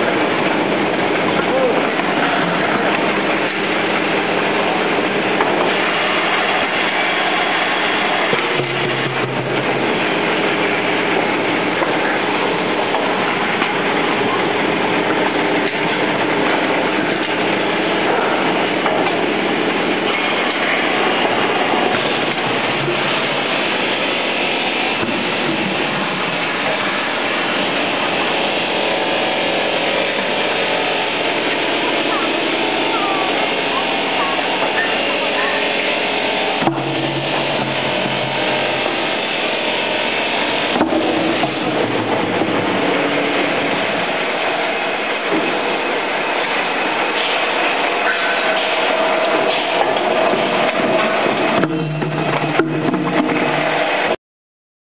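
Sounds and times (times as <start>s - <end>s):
spraying water: 0.0s - 51.6s
washing machine running: 0.0s - 54.2s.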